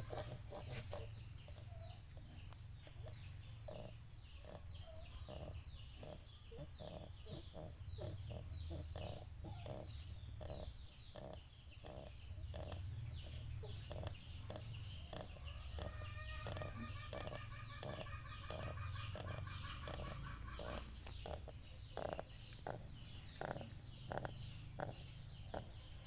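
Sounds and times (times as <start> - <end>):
chickens clucking: 0.0 - 9.8, 11.2 - 25.8
small birds chirping: 0.0 - 26.0.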